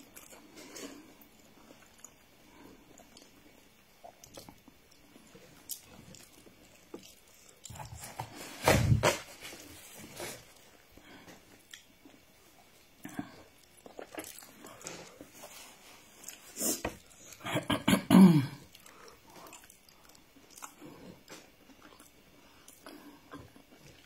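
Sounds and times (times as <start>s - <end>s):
person chewing: 0.0s - 8.5s, 9.4s - 17.5s, 18.6s - 24.0s.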